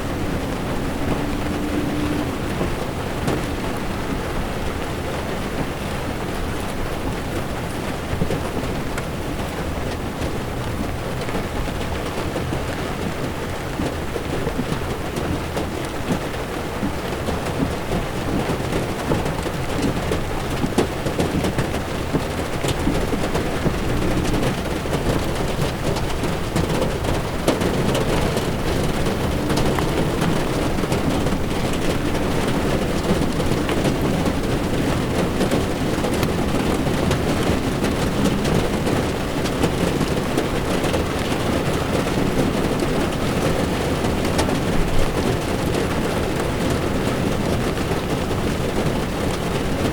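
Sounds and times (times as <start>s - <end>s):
low road rumble: 0.0s - 49.9s
rain pattering on a car: 0.0s - 49.9s.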